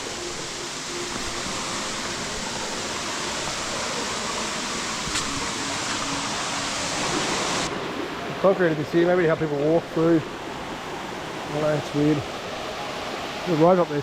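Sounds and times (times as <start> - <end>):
waterfall splashing: 0.0 - 14.0.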